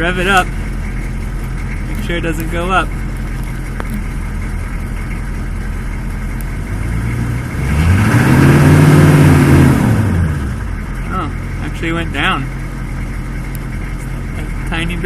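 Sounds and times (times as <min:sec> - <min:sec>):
diesel engine idling and revving: 0:00.0 - 0:15.0.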